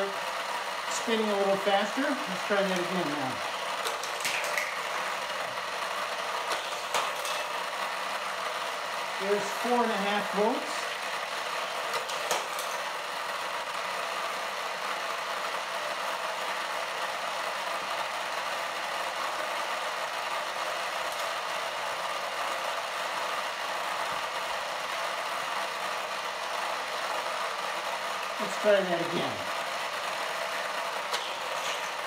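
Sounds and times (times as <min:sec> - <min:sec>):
small electric motor whirring: 0:00.0 - 0:32.0.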